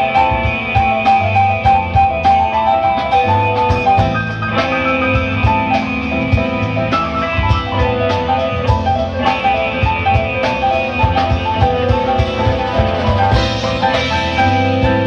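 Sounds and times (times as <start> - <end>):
digital piano playing a run: 0.0 - 15.0
guitar: 0.0 - 15.0
steady low drum beat: 0.0 - 15.0.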